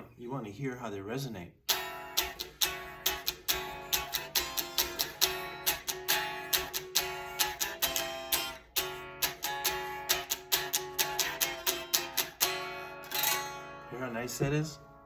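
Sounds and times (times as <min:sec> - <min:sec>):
unplugged electric guitar strummed: 0:01.7 - 0:15.0.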